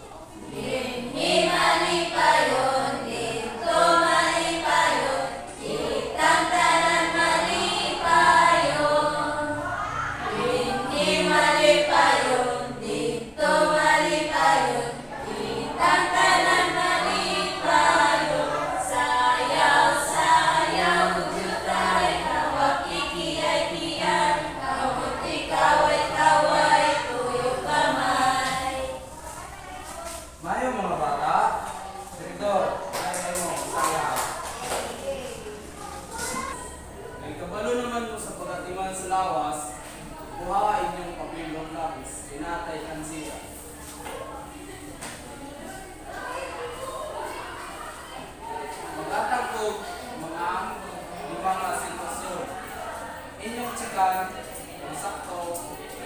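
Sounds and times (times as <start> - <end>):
voices singing together: 0.0 - 56.0.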